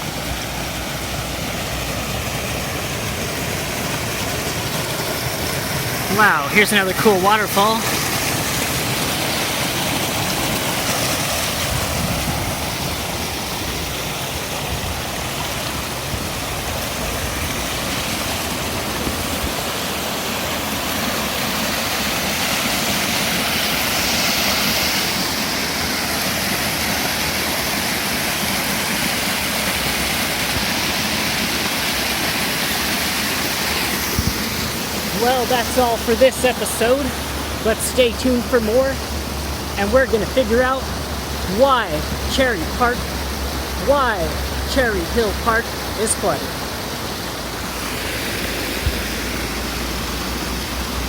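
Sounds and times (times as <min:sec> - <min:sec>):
waterfall pouring and splashing: 0:00.0 - 0:51.0.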